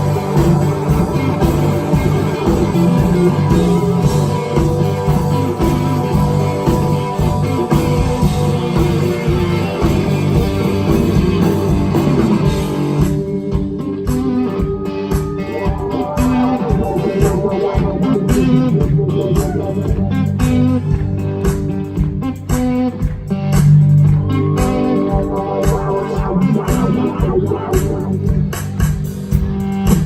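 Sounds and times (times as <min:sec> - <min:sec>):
blues-rock band playing: 0:00.0 - 0:30.0
electric guitar: 0:00.0 - 0:30.0.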